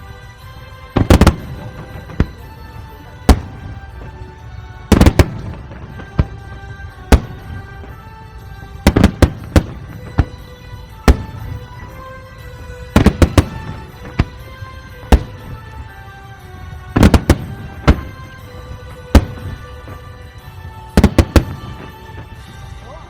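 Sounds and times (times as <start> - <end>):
fireworks bangs: 0.0 - 23.0
music: 0.0 - 23.0.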